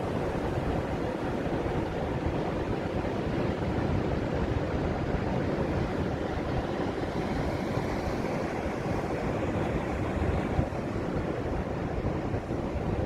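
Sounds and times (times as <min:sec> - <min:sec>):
ocean waves breaking on beach: 0:00.0 - 0:13.0
wind buffeting microphone: 0:00.0 - 0:13.0.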